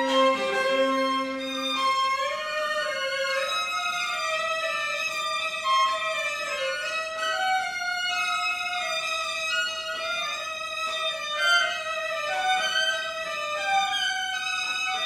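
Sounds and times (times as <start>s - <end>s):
cello bowing: 0.0s - 15.0s
violin melody: 0.0s - 15.0s.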